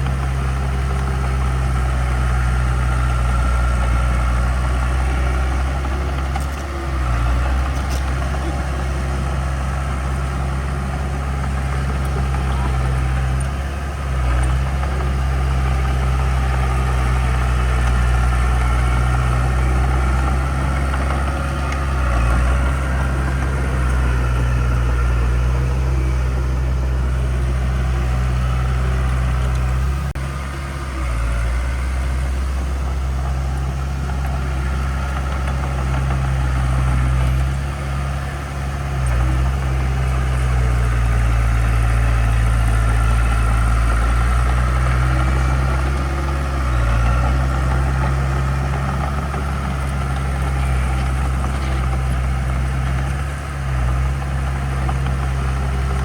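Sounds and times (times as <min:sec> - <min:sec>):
diesel engine deep drone: 0:00.0 - 0:56.0.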